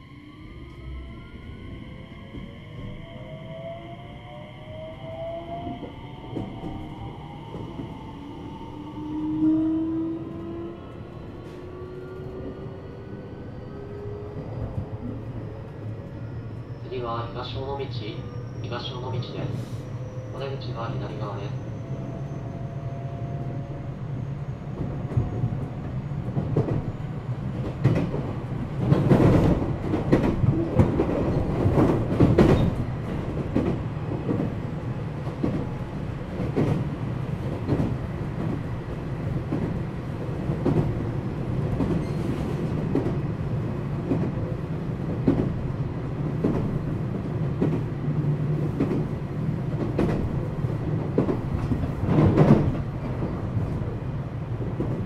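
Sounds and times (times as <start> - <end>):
train interior rumble: 0.0 - 55.0.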